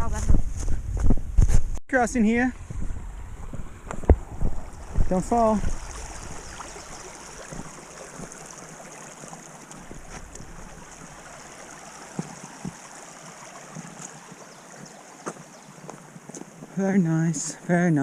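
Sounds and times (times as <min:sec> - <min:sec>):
footsteps on trail: 0:00.0 - 0:01.8, 0:02.6 - 0:16.8
stream flowing: 0:02.6 - 0:17.9.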